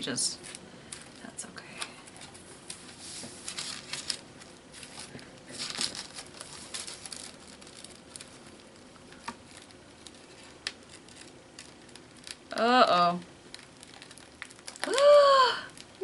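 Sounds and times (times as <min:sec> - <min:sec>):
paper rustling and crinkling: 0:00.4 - 0:12.7, 0:13.5 - 0:15.0.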